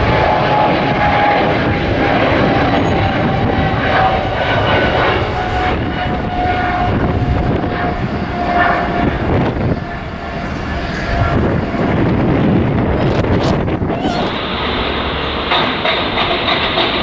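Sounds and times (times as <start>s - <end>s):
thin engine whine: 0.0s - 16.4s
jet engines rushing rumble: 0.0s - 17.0s.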